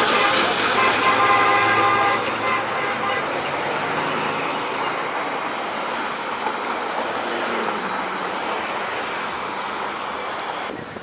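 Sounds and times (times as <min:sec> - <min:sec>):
cars driving past: 0:00.0 - 0:10.8.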